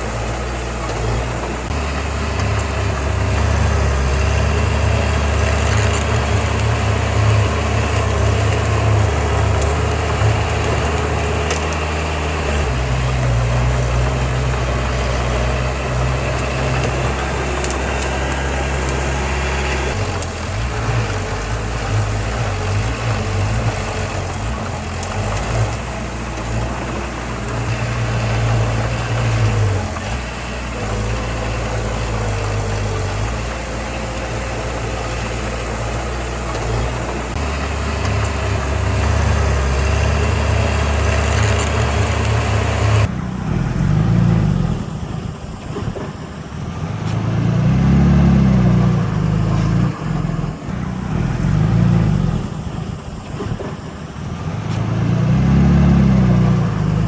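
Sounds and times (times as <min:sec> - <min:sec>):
diesel earthmoving machinery running: 0:00.0 - 0:57.0.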